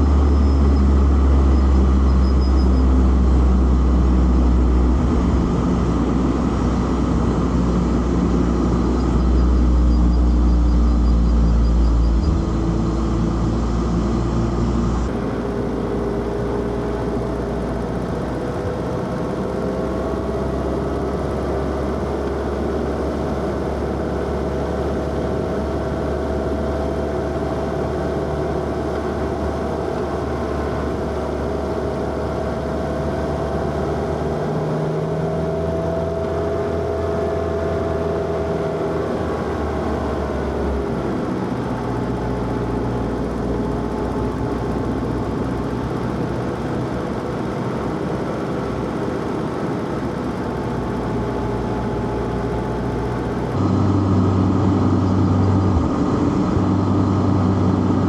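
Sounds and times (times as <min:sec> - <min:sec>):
car engine accelerating: 0:00.0 - 0:58.0
wind and road noise: 0:00.8 - 0:58.0.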